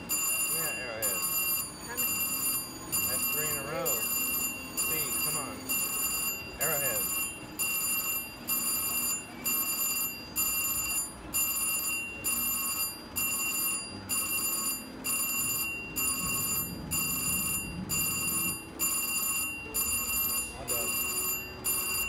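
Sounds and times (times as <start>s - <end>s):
slot machine electronic bell ringing: 0.0s - 22.0s.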